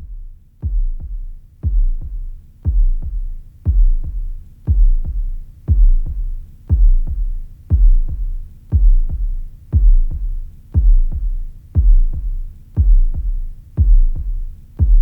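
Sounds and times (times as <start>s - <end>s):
electronic music with deep bass beat: 0.0s - 15.0s.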